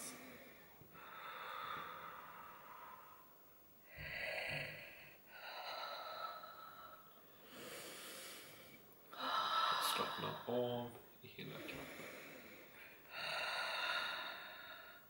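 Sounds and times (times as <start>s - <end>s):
woman breathing deeply: 0.0s - 10.5s, 11.4s - 15.0s.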